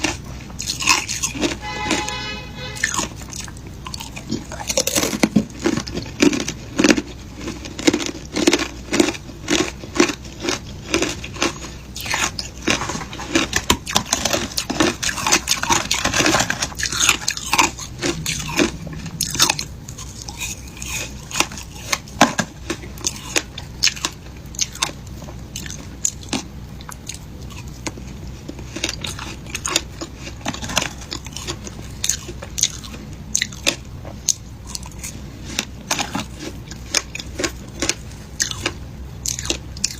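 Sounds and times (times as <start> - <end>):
ice being crunched and chewed: 0.0 - 39.9.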